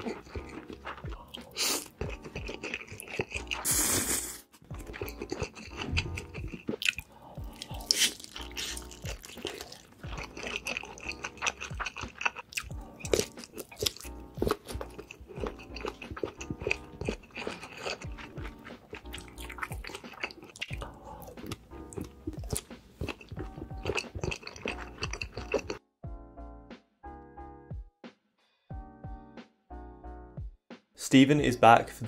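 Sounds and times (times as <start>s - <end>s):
person chewing and biting food: 0.0s - 25.8s
background music: 0.0s - 32.0s.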